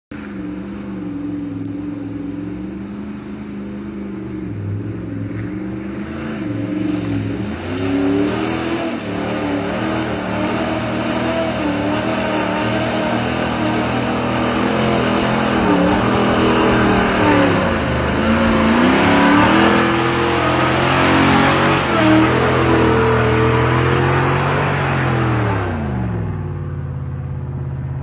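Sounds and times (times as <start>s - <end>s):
car engine revving: 0.3s - 28.0s.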